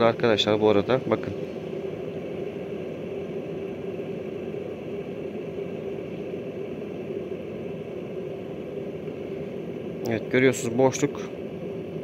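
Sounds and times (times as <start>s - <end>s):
electric kettle heating water: 0.0s - 12.0s
low hum: 0.0s - 12.0s.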